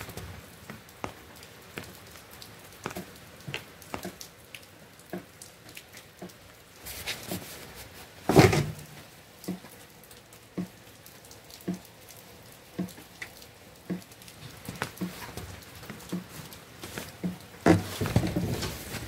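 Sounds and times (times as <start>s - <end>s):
rain pattering on window: 0.0s - 19.0s
water dripping: 0.0s - 19.0s.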